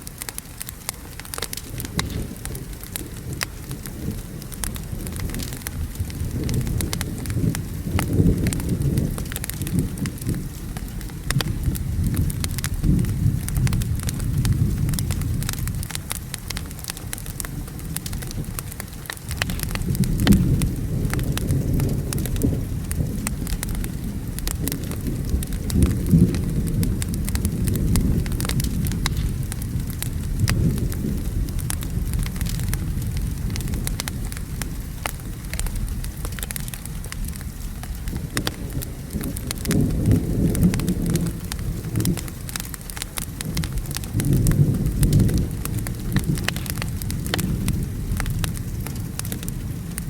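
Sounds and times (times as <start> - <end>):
rain: 0.0 - 50.0
wood fire crackling: 0.0 - 50.0
rumble of thunder: 1.3 - 50.0.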